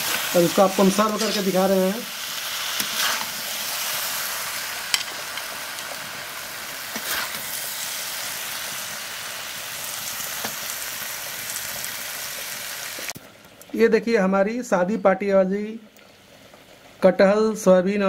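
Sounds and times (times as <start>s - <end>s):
curry sizzling in pan: 0.0s - 13.9s, 16.0s - 17.8s.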